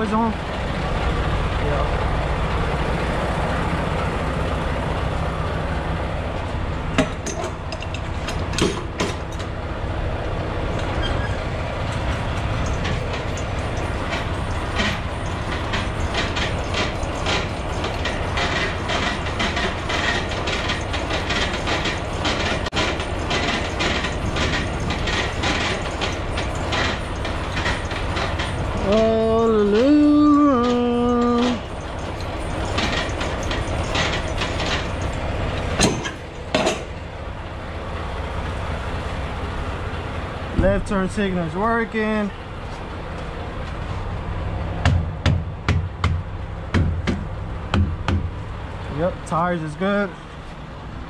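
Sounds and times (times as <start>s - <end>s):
truck diesel engine idling: 0.0s - 7.0s, 7.6s - 44.8s.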